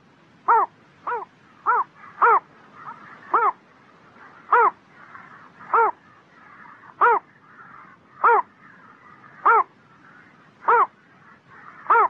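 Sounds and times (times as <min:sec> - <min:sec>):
heron calling: 0:00.4 - 0:12.0.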